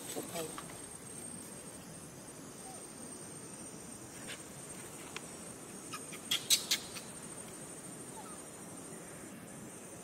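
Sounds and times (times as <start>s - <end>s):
outdoor background: 0.0s - 10.0s.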